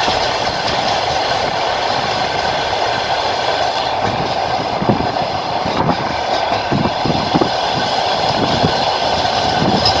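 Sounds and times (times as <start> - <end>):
train carriage rumble and hum: 0.0 - 10.0
wheels thumping on track: 0.0 - 10.0.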